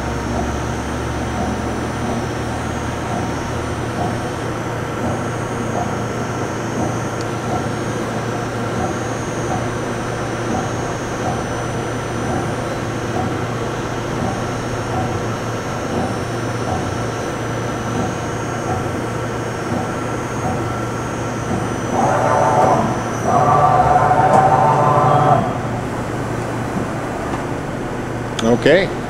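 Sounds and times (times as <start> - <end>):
machine hum: 0.0 - 29.0
regular machine pulse: 0.0 - 29.0.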